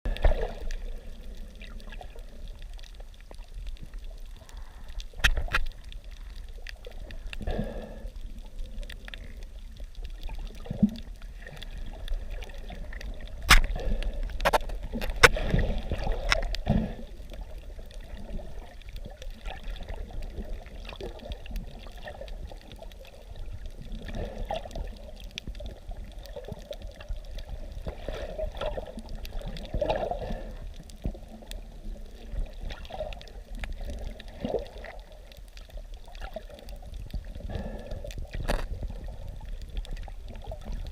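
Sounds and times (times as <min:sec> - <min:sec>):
water sloshing and splashing: 0:00.1 - 0:07.4, 0:08.4 - 0:40.9.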